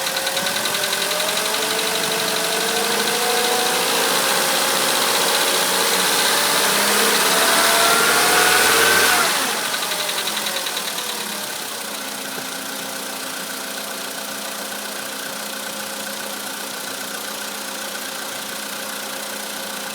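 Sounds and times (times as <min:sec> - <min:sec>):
car engine revving and idling: 0:00.0 - 0:19.9.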